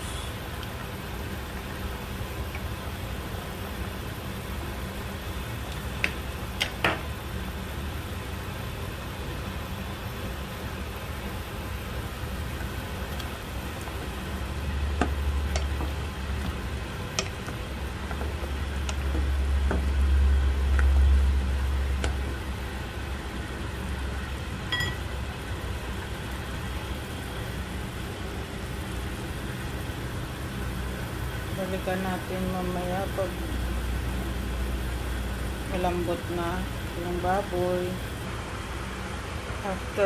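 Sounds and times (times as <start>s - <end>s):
stew boiling in a pot: 0.0s - 40.0s.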